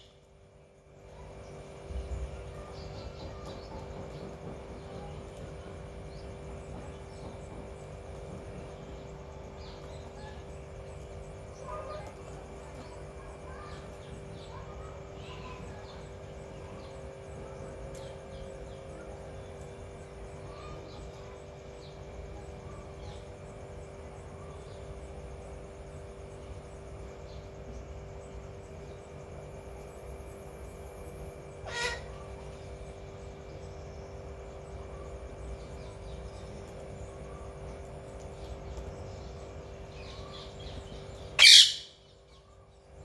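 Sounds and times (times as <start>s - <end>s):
faint bird chirps: 0.0s - 43.0s
steady hum: 0.0s - 43.0s.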